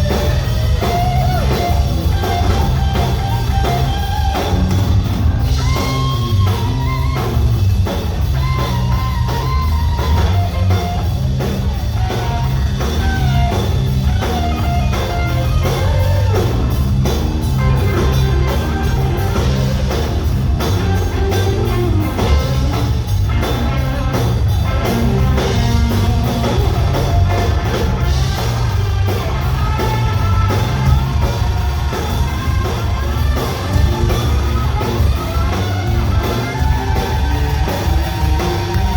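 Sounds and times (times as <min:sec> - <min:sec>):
electric guitar lead: 0:00.0 - 0:38.9
rock band playing: 0:00.0 - 0:38.9.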